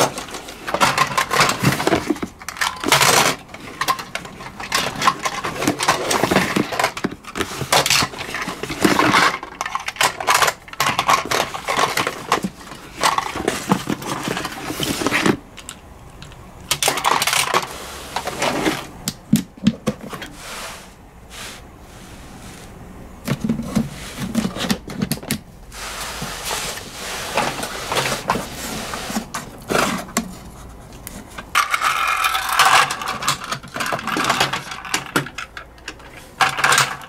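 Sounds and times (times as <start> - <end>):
metal toy cars clattering: 0.0 - 20.4, 23.2 - 37.0.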